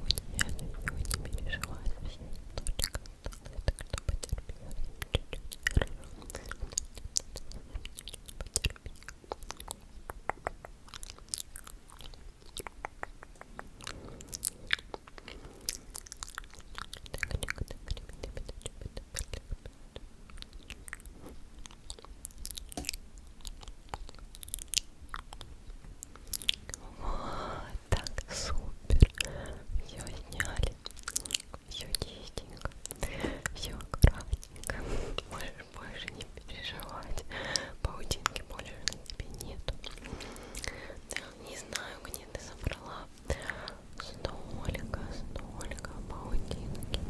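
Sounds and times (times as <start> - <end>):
wet mouth clicks and smacks: 0.0 - 26.8, 28.0 - 47.0.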